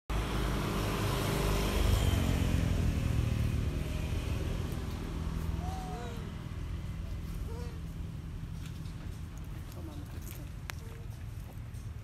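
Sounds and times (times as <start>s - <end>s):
vehicle engine rumbling: 0.1s - 12.0s.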